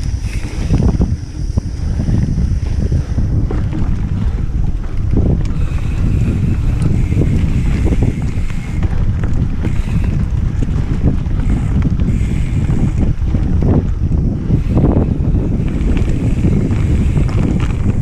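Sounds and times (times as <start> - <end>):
bike knocks and rattles: 0.0 - 18.0
wind buffeting microphone: 0.0 - 18.0.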